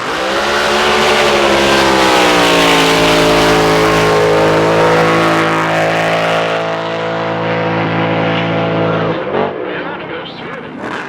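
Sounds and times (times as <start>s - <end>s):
racing boat engine: 0.0s - 11.0s.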